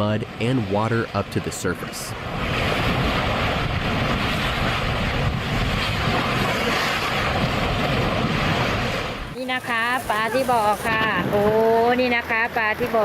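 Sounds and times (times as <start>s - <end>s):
mud volcano rushing roar: 0.0s - 13.0s.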